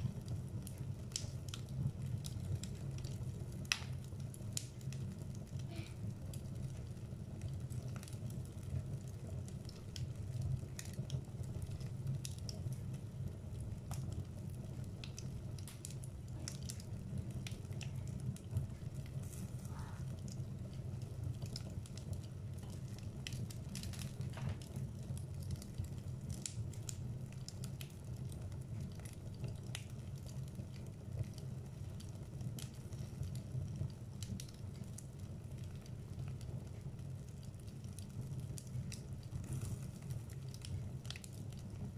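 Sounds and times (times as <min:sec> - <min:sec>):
fire flames rumbling: 0:00.0 - 0:41.9
logs crackling and popping: 0:00.0 - 0:41.9.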